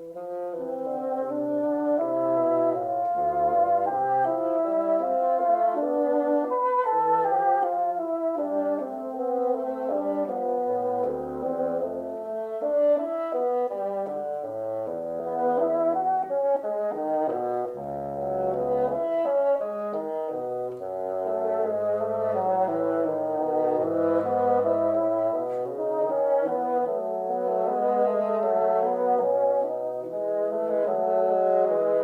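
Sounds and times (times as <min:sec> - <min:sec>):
brass instruments playing chords: 0:00.0 - 0:32.0.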